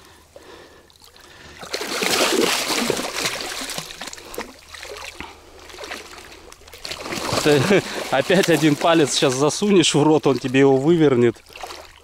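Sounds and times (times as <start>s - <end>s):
fish thrashing and splashing: 1.0s - 12.0s.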